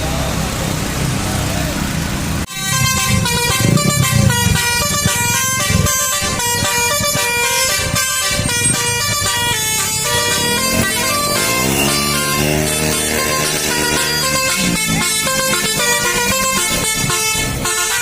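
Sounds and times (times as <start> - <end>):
bus air horns playing a tune: 2.5 - 18.0.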